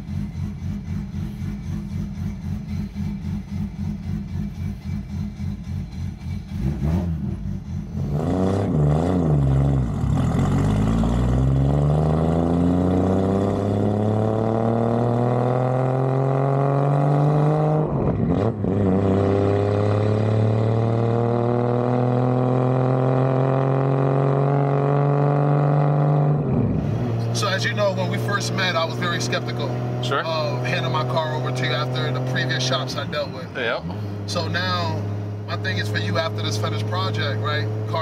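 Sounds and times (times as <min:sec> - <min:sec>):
car engine revving up: 0:00.0 - 0:38.0.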